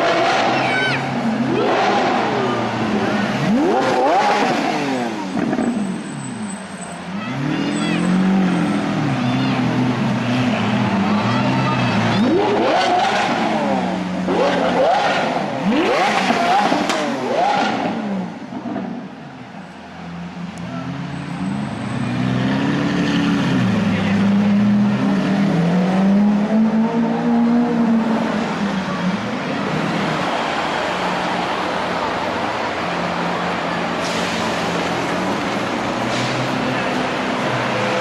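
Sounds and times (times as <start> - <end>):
sports car engine revving: 0.0 - 6.4, 9.7 - 19.0, 22.1 - 38.0.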